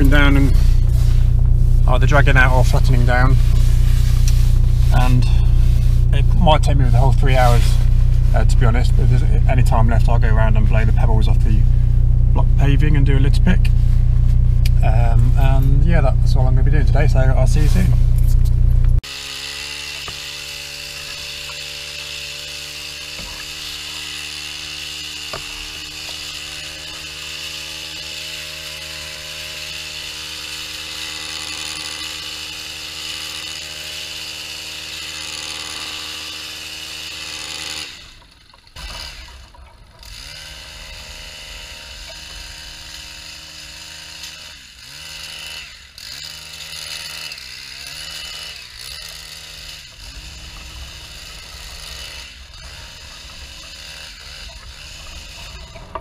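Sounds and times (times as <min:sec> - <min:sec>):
small power tool engine running: 0:00.0 - 0:12.3, 0:19.0 - 0:56.0.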